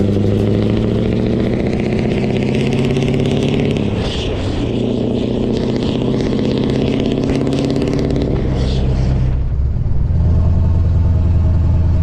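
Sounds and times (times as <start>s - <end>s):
engine drone inside cab: 0.0s - 12.0s
road and tyre noise: 0.0s - 12.0s
truck exhaust driving past: 0.0s - 12.0s.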